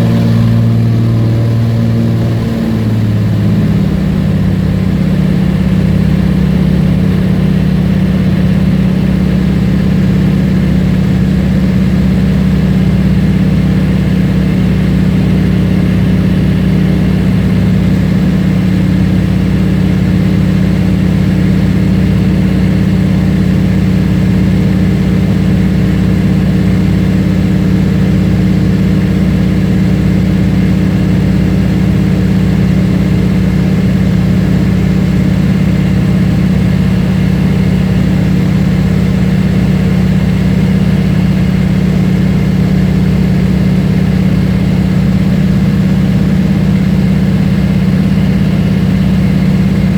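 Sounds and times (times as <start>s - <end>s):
plane piston engine humming: 0.0s - 49.9s.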